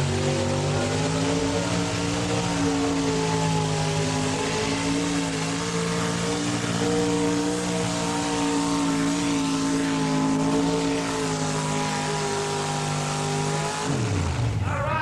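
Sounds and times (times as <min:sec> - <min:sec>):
truck engine revving under load: 0:00.0 - 0:14.6.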